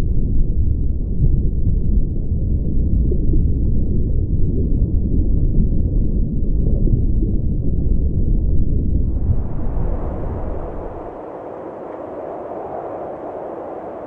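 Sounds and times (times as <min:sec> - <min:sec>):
muffled low rumble: 0:00.3 - 0:14.0.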